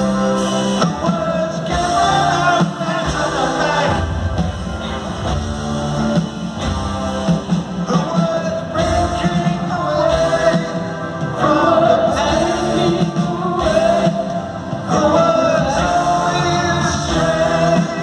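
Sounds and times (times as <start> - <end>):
voices singing held notes: 0.0 - 5.2, 7.0 - 18.0
live rock band: 0.0 - 18.0.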